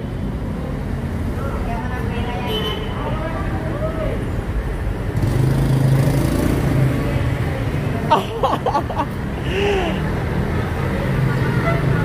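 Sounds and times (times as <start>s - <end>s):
cars and motorcycles driving past: 0.0s - 12.0s
tyres on road: 0.0s - 12.0s.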